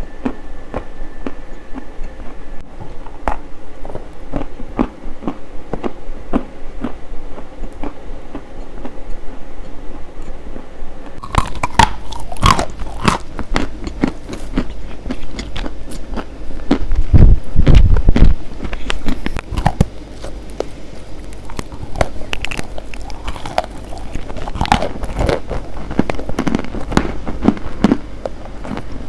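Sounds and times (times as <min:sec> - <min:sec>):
biting and crunching: 0:00.2 - 0:09.4, 0:11.2 - 0:29.0.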